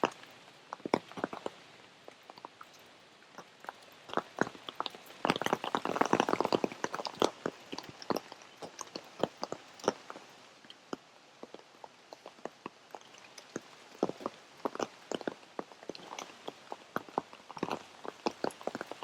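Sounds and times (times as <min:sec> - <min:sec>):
raindrops dripping and tapping: 0:00.0 - 0:19.0.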